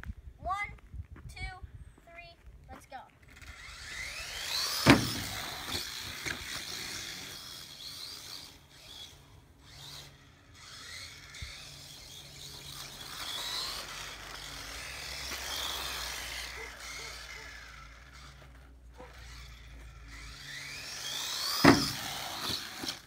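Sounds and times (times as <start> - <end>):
rc truck electric motor whining: 3.2 - 23.0.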